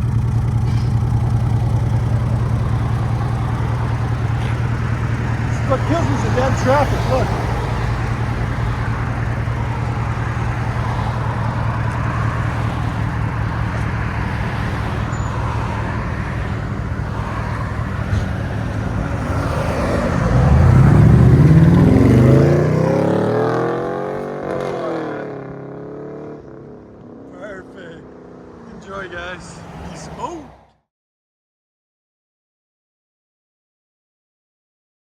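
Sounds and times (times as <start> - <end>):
car engine idling and revving: 0.0 - 30.8.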